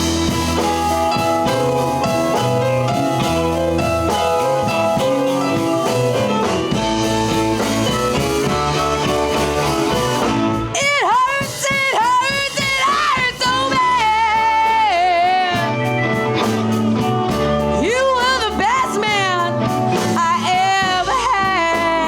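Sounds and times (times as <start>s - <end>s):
bending lead guitar line: 0.0s - 22.0s
blues band playing: 0.0s - 22.0s.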